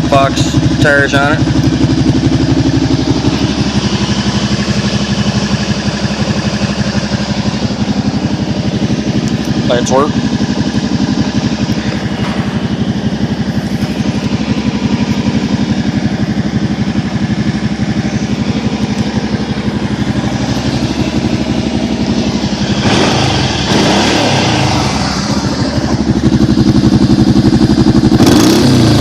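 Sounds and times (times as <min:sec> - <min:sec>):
atv engine idling: 0:00.0 - 0:29.0.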